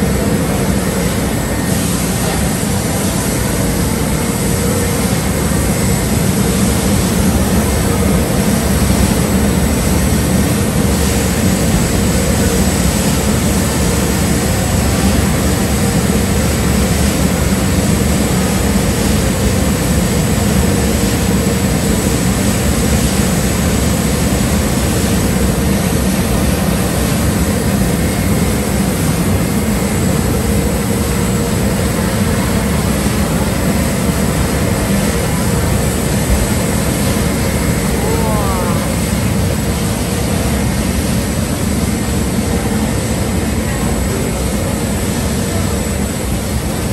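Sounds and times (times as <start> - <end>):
roasting machinery fans whirring: 0.0 - 46.9.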